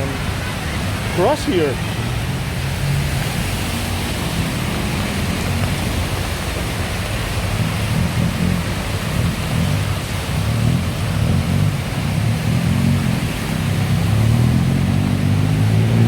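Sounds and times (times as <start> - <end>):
heavy rain: 0.0 - 16.0
running floodwater: 0.0 - 16.0.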